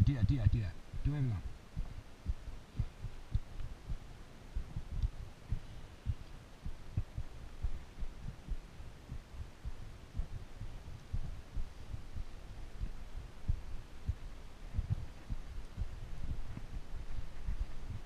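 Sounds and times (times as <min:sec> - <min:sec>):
faint steady hiss: 0:00.0 - 0:18.0
thumping on camera microphone: 0:01.0 - 0:18.0.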